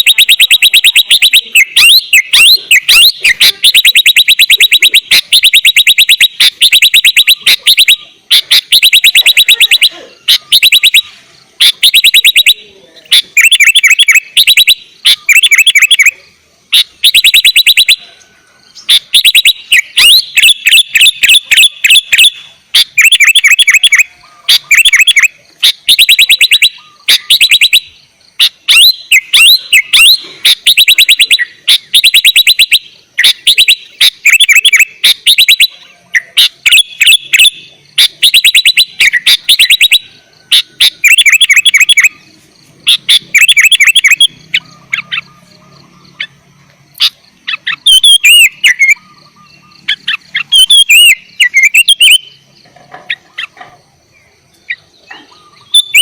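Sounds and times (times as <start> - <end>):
bulbul singing rapid chirps: 0.0 - 56.0.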